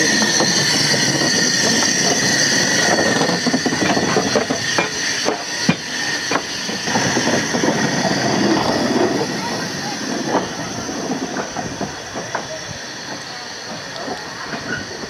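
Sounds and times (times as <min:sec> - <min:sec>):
hiss of steam: 0:00.0 - 0:15.0
steam locomotive moving slowly: 0:00.0 - 0:15.0.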